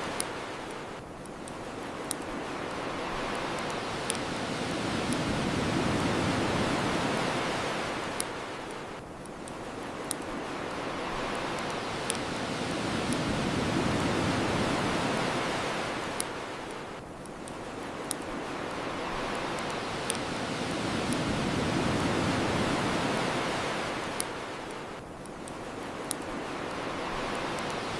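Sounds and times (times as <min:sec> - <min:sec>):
bonfire crackling pops: 0:00.0 - 0:07.3, 0:08.0 - 0:27.9
ocean surf washing on shore: 0:00.0 - 0:27.9.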